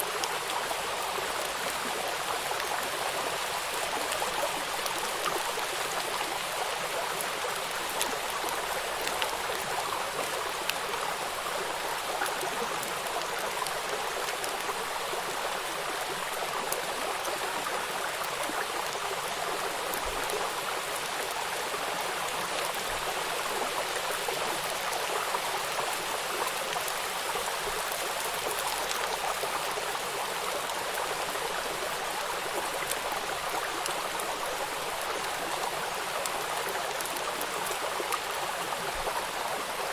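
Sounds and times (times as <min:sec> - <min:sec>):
raindrop ticks: 0:07.4 - 0:39.4.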